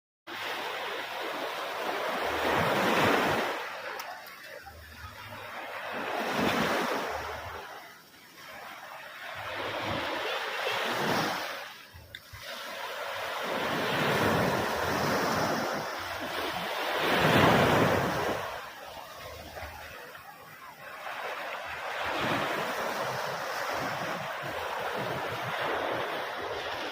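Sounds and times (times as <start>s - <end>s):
ocean waves rushing in: 0.3s - 26.9s.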